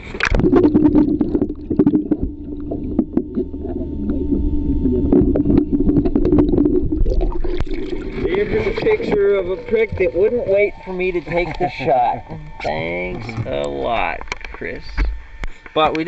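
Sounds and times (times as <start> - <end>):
underwater water sloshing: 0.0 - 15.7
steady low hum: 0.0 - 16.0.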